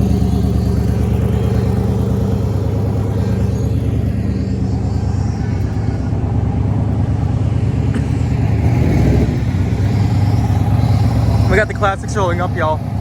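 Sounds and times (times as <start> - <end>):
car engine rolling by: 0.0 - 13.0.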